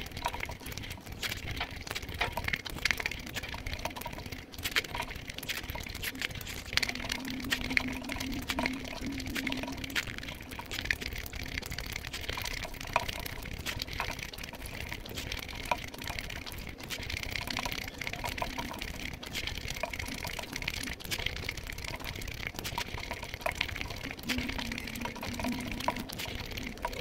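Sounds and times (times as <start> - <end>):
wet chewing and lip-smacking: 0.0 - 27.0.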